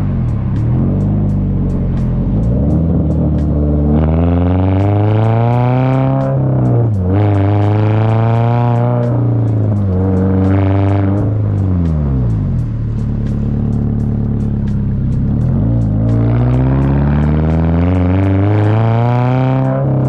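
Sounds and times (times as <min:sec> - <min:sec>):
background music with steady beat: 0:00.0 - 0:20.0
car engine accelerating: 0:00.0 - 0:20.0.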